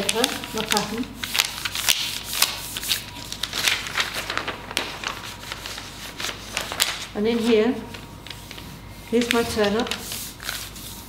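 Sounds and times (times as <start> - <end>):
paper rustling and crackling: 0.0 - 11.0.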